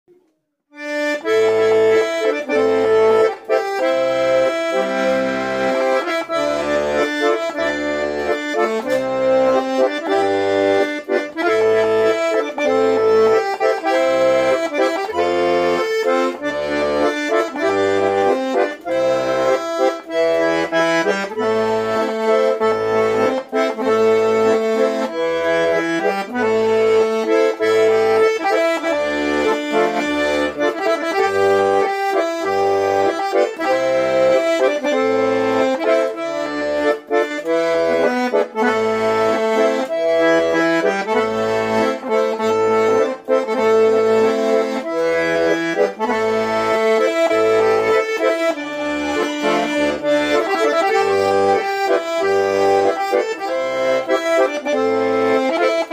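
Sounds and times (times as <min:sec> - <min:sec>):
button accordion folk melody: 0:00.1 - 0:55.9.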